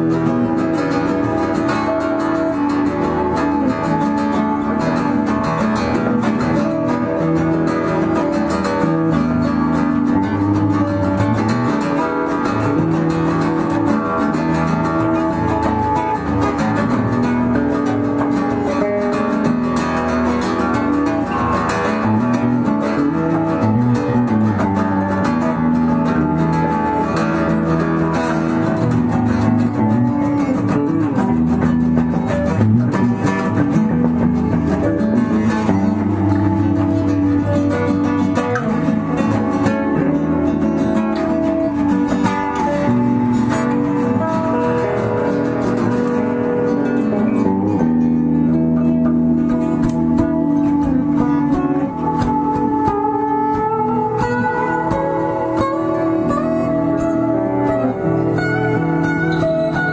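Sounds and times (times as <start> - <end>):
plucked and strummed guitar music: 0.0 - 59.9.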